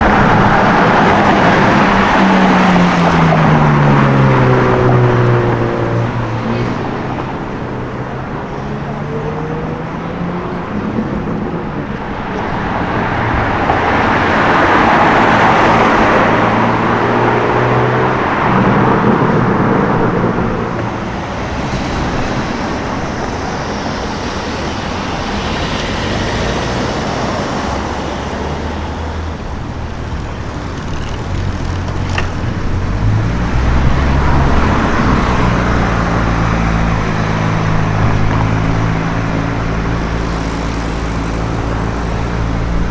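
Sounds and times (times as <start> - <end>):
cars driving past: 0.0 - 42.9
deep low engine rumble: 0.0 - 42.9.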